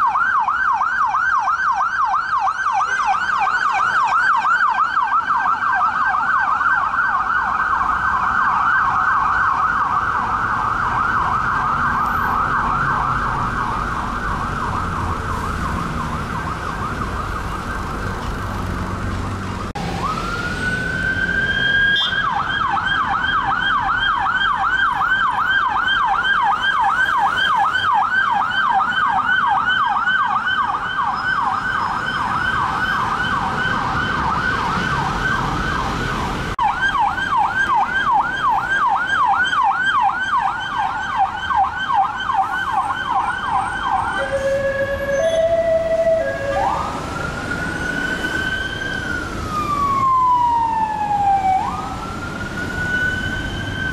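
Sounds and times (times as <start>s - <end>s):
police siren yelp: 0.0s - 18.3s, 19.7s - 36.0s, 36.6s - 53.9s
siren rising wail: 0.0s - 53.9s
traffic rumbling: 0.0s - 53.9s.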